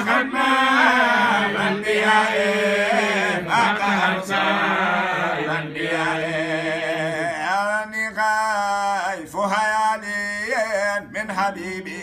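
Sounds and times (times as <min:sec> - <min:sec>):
man chanting unaccompanied: 0:00.0 - 0:12.0.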